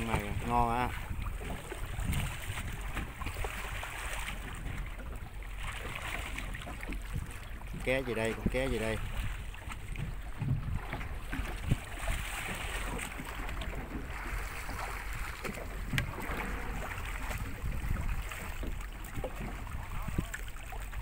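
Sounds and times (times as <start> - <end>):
water slapping against boat hull: 0.0 - 21.0
wind rumble on microphone: 0.0 - 21.0.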